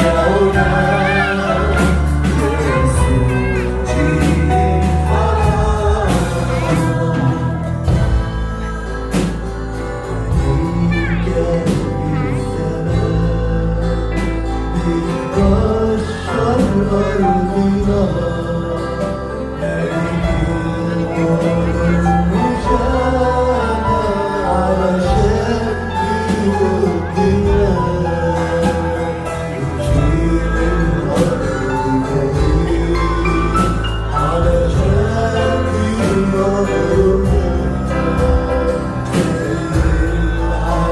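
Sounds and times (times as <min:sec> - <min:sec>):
bass guitar: 0:00.0 - 0:40.9
group singing with band: 0:00.0 - 0:40.9
guitar: 0:00.0 - 0:40.9.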